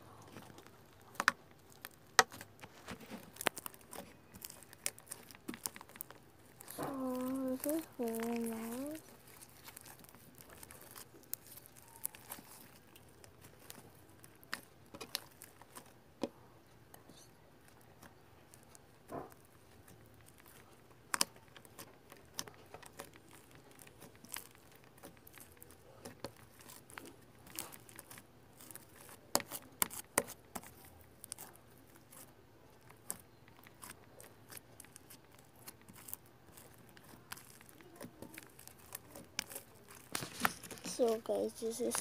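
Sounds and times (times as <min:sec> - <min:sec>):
slime squished by hand: 0:00.0 - 0:16.3, 0:16.9 - 0:42.0.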